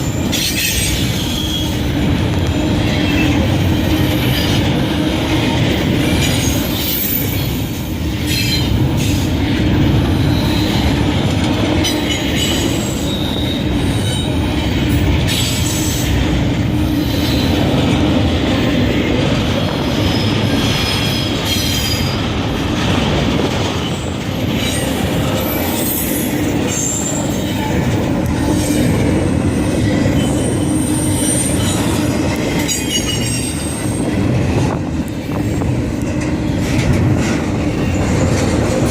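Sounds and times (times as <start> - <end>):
train rumbling past: 0.0 - 38.9
wheels squealing on rails: 0.0 - 38.9.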